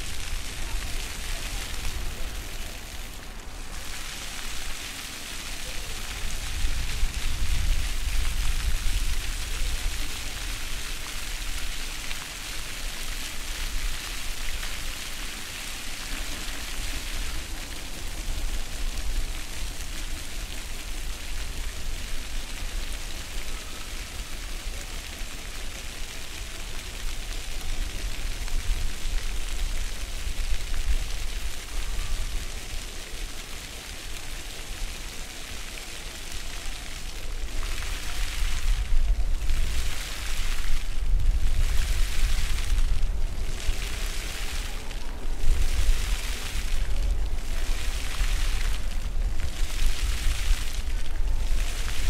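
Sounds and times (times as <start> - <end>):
fountain water splashing on stone: 0.0 - 52.0.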